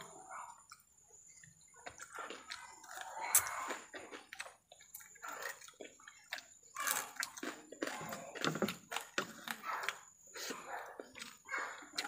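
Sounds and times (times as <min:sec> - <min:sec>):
chewing and lip-smacking: 0:00.4 - 0:12.0.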